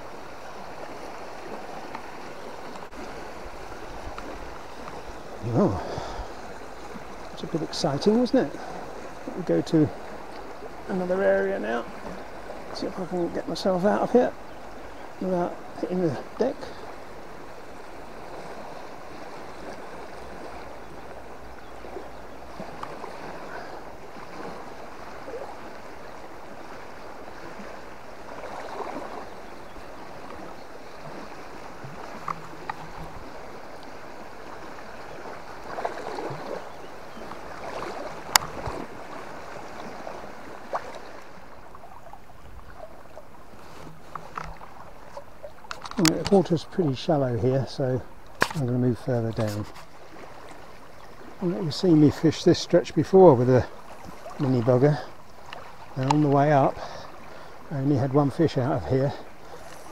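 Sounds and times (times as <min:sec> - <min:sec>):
legs sloshing through water: 0:00.0 - 0:59.9
river water running: 0:00.0 - 0:59.9.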